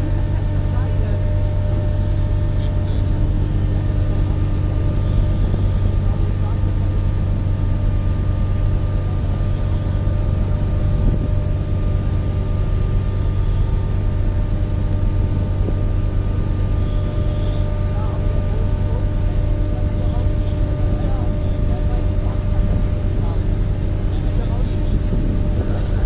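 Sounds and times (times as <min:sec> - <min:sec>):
ferry engines humming: 0:00.0 - 0:26.0
wind and sea rushing: 0:00.0 - 0:26.0.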